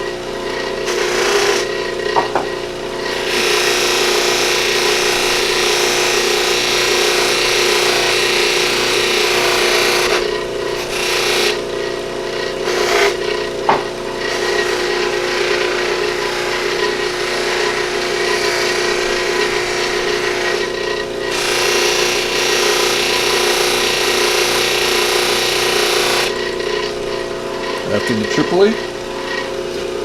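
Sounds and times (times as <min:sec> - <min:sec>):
buffing wheel running: 0:00.0 - 0:30.0.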